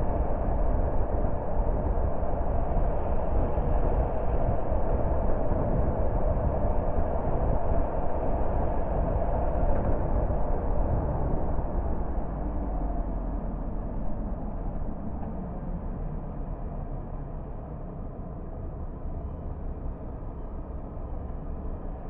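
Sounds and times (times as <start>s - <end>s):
car driving road noise: 0.0s - 22.0s.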